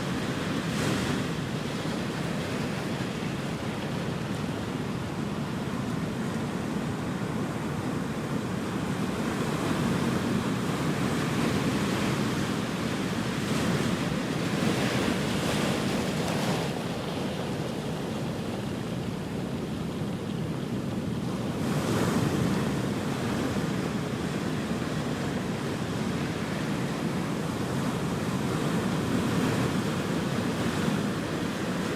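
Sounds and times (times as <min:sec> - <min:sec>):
ocean waves breaking: 0:00.0 - 0:31.9.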